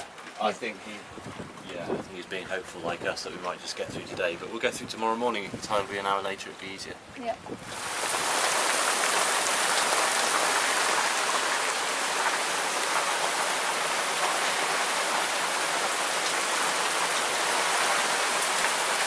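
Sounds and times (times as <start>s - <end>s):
rain on a boat deck: 0.0s - 19.0s.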